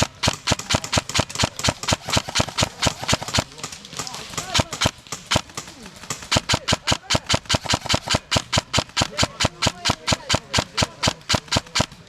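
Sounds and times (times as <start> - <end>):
airsoft gun firing: 0.0 - 12.0.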